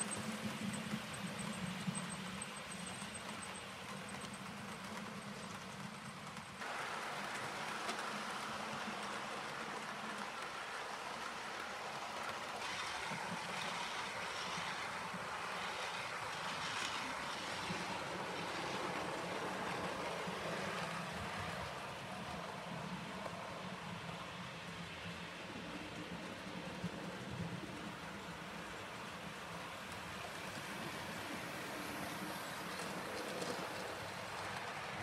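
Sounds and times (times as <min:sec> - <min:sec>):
model train rolling on track: 0:00.0 - 0:35.0.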